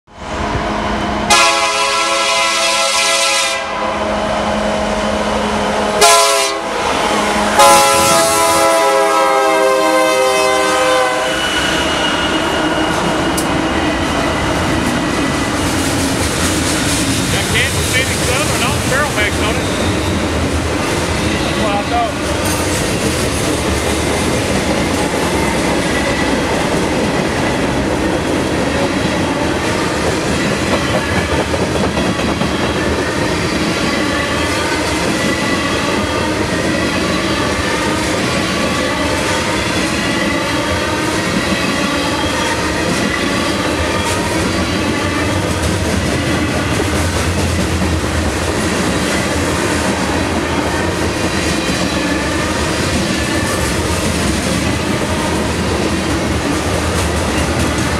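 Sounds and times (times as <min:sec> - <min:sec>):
freight train wheels rumbling on rail: 0:00.1 - 0:57.9.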